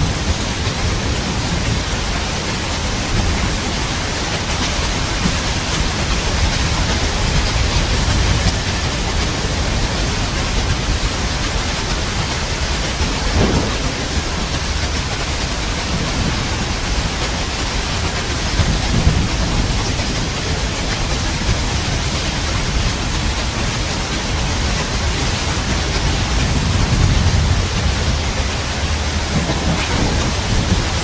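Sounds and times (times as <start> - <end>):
rain hissing: 0.0 - 31.0
thunder rumbling: 0.0 - 31.0.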